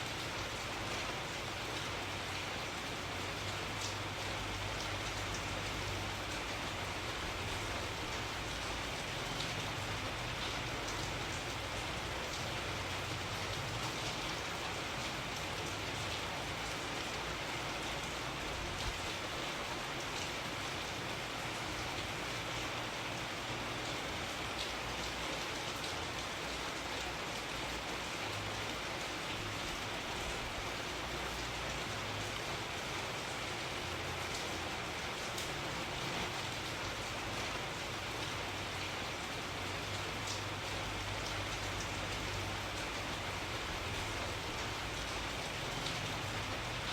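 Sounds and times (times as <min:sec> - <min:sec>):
rain pattering on a surface: 0:00.0 - 0:46.9.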